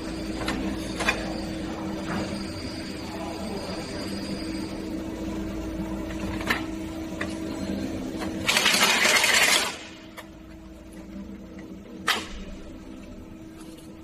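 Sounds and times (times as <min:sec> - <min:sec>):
machine humming: 0:00.0 - 0:14.0.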